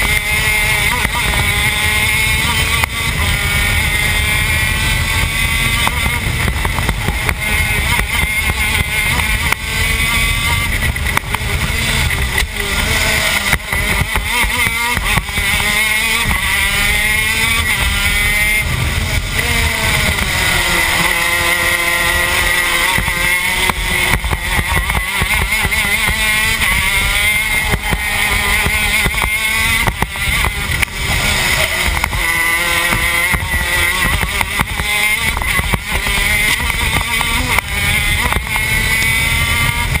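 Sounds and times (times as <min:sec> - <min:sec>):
kart engine racing: 0:00.0 - 0:40.0.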